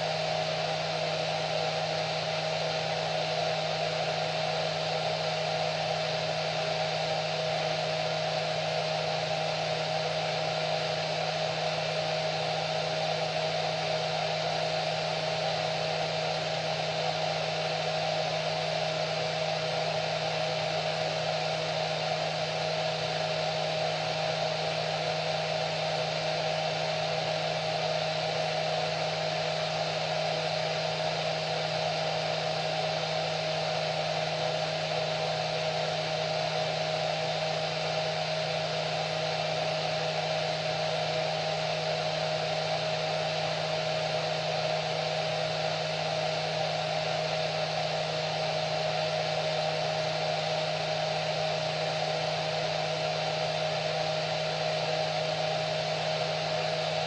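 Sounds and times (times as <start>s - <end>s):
hair dryer running: 3.8s - 57.0s.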